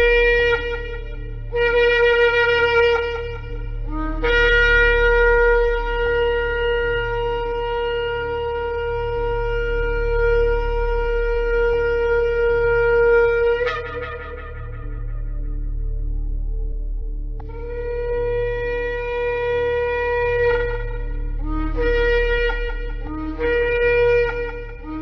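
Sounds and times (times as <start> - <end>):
shofar blasts: 0.0 - 15.9, 17.5 - 25.0.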